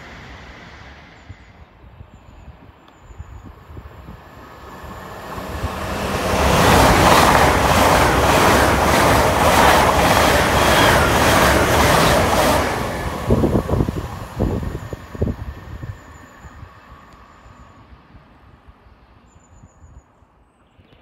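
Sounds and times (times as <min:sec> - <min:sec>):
rushing air: 0:00.0 - 0:17.1
train passing at speed: 0:00.0 - 0:20.4.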